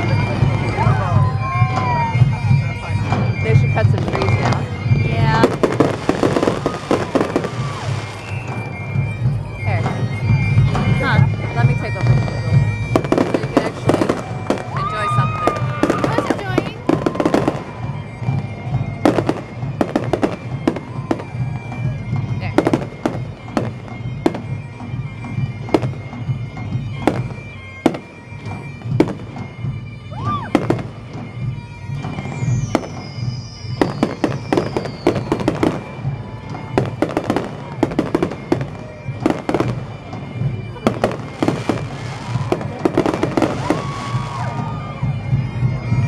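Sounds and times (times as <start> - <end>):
firework whistle falling in pitch: 0.0 - 46.0
music: 0.0 - 46.0.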